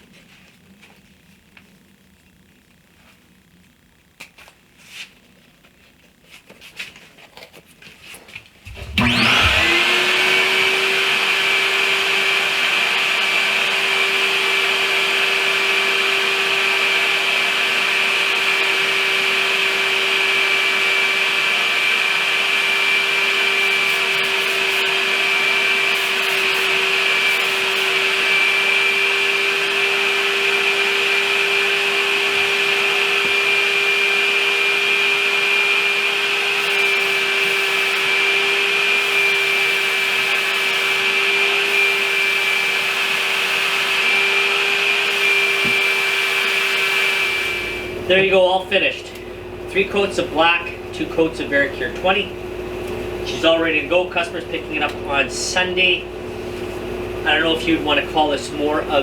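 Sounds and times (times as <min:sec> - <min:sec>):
paint sprayer motor whine and hiss: 0:08.6 - 0:59.0.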